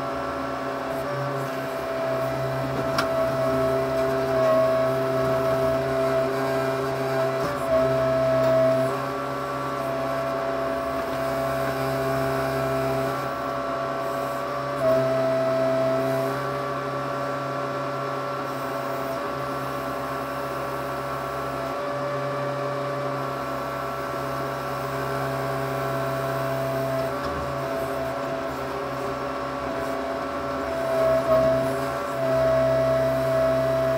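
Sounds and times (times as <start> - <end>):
backhoe engine running: 0.0 - 33.9
hydraulic whine: 0.0 - 33.9.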